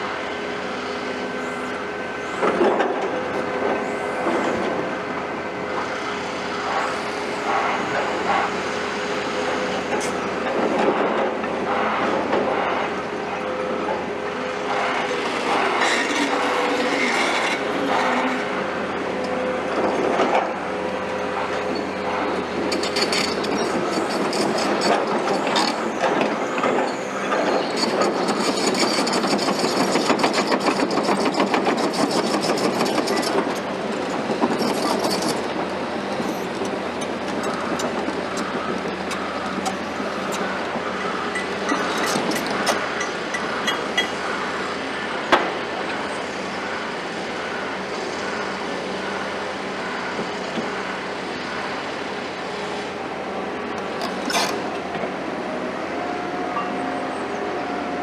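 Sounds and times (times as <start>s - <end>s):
construction machinery running: 0.0s - 58.0s.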